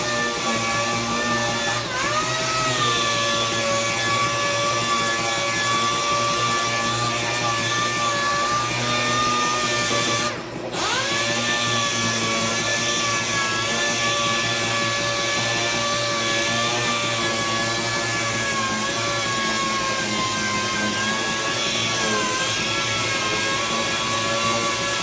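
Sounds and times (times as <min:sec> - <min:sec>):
power tool high whine: 0:00.0 - 0:25.0.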